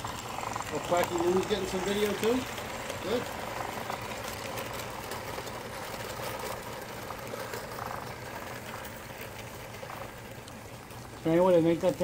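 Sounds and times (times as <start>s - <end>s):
model train rolling on metal rails: 0.0s - 12.0s.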